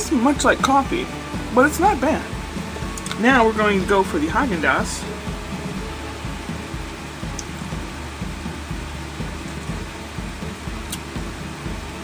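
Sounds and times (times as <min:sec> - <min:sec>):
pulsing mechanical hum: 0:00.0 - 0:12.0.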